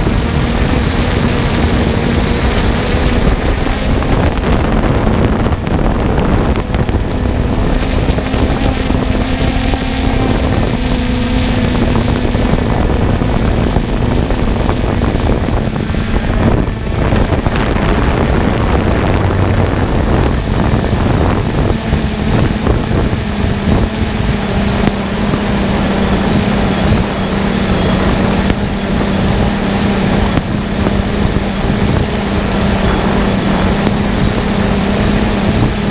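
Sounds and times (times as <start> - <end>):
motor hum: 0.0 - 35.9
wind noise on microphone: 0.0 - 35.9.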